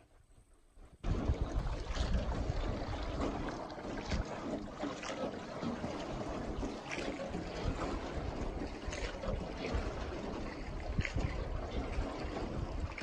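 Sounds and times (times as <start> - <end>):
wind rumbling on microphone: 0.0 - 13.0
oars splashing: 1.0 - 13.0
water splashing and dripping: 1.0 - 13.0.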